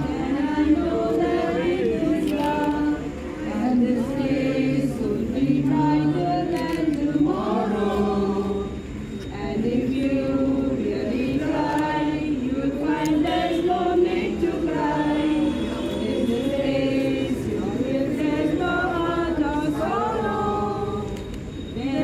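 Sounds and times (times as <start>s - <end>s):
crowd singing together: 0.0s - 22.0s.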